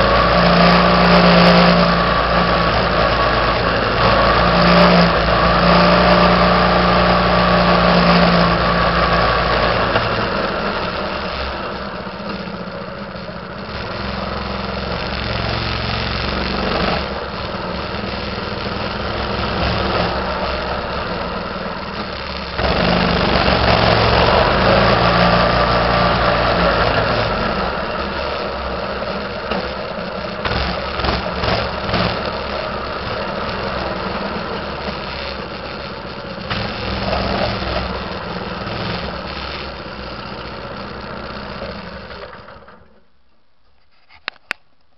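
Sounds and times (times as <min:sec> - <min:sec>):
minibike engine running: 0:00.0 - 0:43.0.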